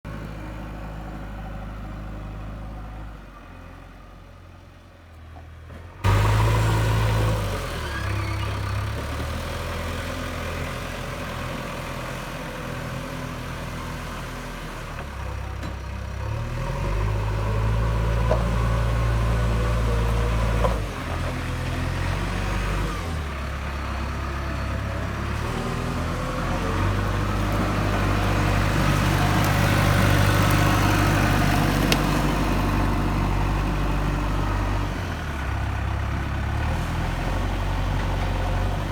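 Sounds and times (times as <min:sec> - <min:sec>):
diesel engine revving: 0:06.0 - 0:38.9.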